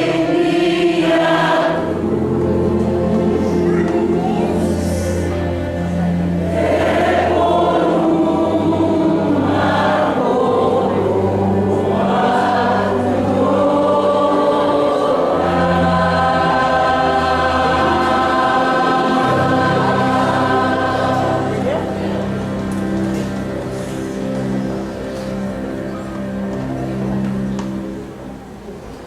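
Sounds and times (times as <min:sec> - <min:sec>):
church choir singing: 0:00.0 - 0:28.1
instrumental accompaniment: 0:00.0 - 0:29.0.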